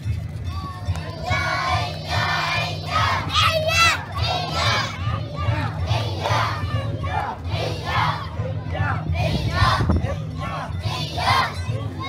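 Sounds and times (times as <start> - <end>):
crowd shouting rhythmic chant: 0.6 - 12.0.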